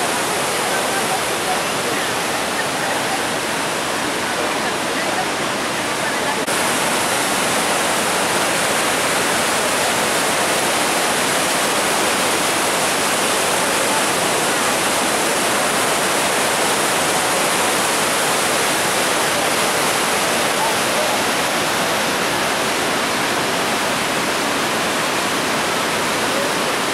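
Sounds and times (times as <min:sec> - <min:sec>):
waterfall rushing over rocks: 0:00.0 - 0:26.9.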